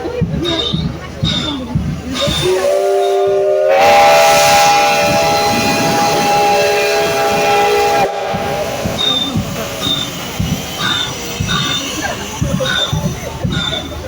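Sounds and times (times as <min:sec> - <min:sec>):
steam hissing: 0:00.4 - 0:14.0
steam locomotive whistle: 0:02.1 - 0:14.0.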